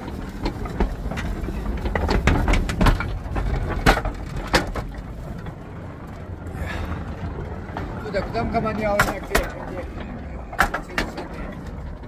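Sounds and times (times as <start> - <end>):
mine car rattling and knocking: 0.0 - 6.3, 7.3 - 12.0.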